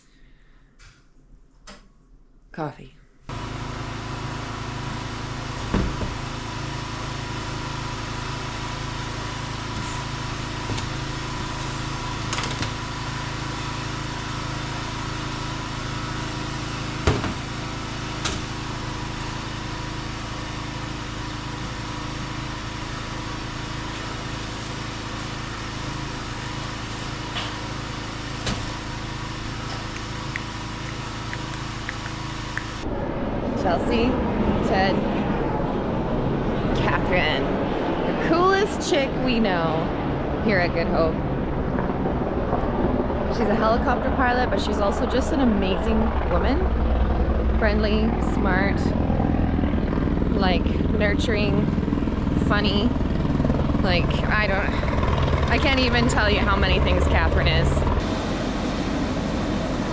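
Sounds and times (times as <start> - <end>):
steady engine drone: 3.3 - 59.9.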